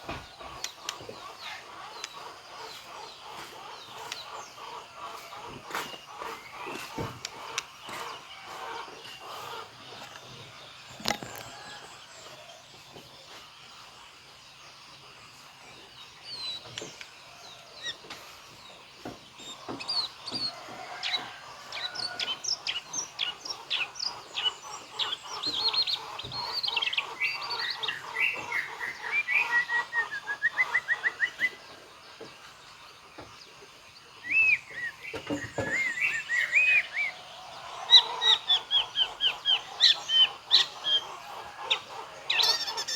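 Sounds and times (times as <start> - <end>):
songbird singing varied song: 0.0 - 42.9.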